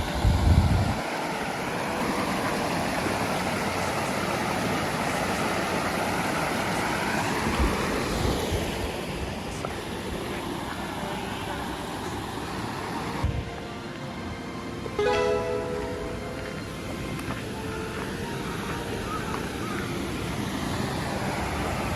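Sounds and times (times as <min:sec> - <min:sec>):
flowing water rushing: 0:00.0 - 0:21.9.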